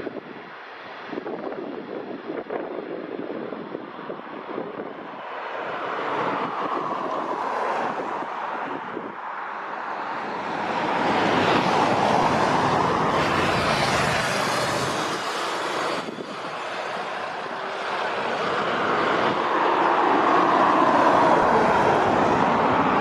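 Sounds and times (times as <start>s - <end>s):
jet engine roar and whine: 3.1s - 23.0s.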